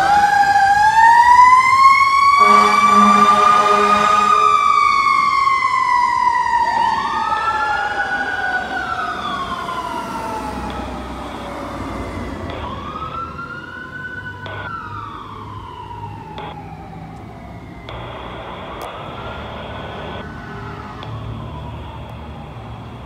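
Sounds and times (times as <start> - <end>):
fire truck sirens wailing: 0.0 - 23.0
low engine rumble: 2.9 - 23.0.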